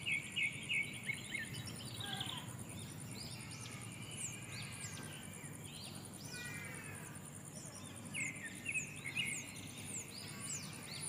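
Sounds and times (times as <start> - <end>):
birds calling: 0.0 - 11.0
high-pitched insect trill: 0.0 - 11.0.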